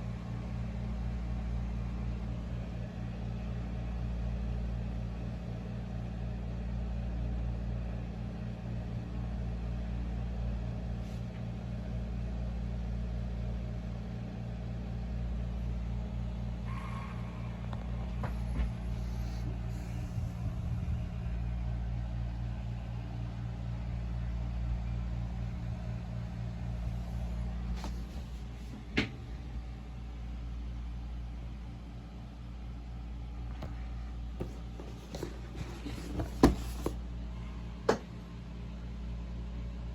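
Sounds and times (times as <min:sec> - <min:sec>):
fan buzzing hum: 0:00.0 - 0:39.9.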